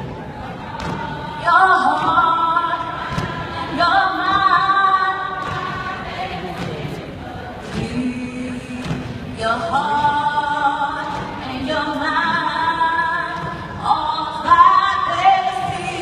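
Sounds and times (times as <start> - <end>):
women singing in unison: 0.0 - 16.0.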